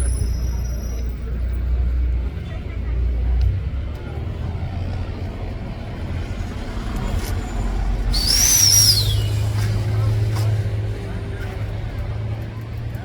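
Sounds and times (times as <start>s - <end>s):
low engine rumble: 0.0s - 13.0s
vehicles passing close by: 0.0s - 13.0s.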